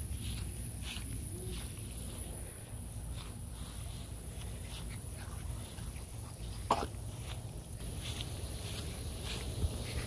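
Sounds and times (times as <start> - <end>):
footsteps through dry grass: 0.0 - 10.0
insects droning: 0.0 - 10.0.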